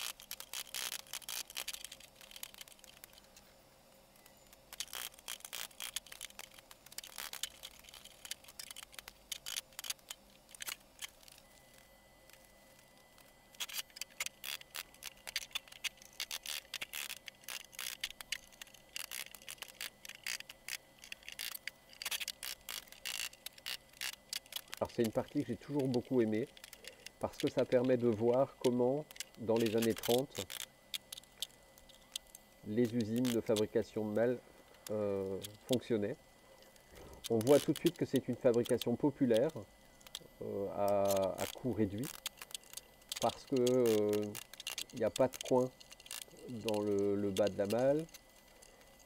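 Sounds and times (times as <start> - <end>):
metal clicks and scrapes: 0.0 - 3.5, 4.1 - 36.0, 36.6 - 49.0.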